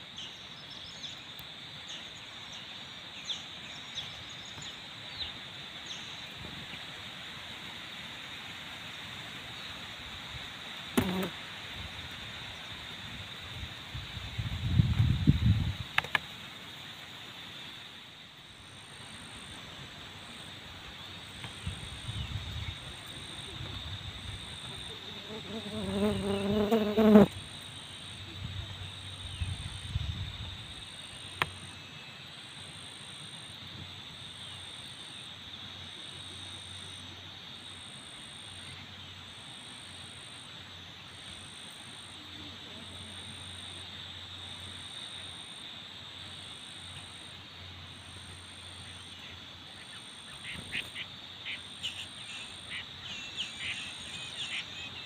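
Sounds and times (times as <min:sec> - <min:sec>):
insects droning: 0:00.0 - 0:55.0
high insect chirp pulsing: 0:10.2 - 0:55.0.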